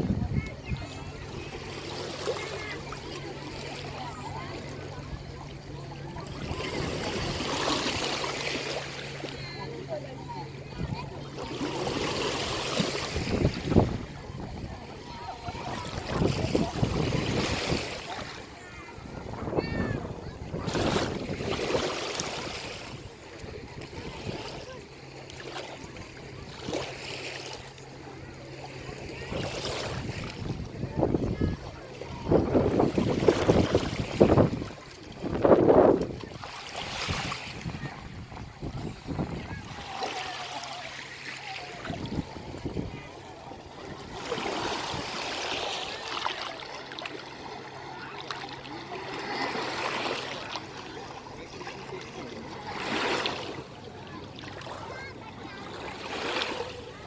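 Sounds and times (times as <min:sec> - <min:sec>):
small waves washing on beach: 0:00.0 - 0:57.0.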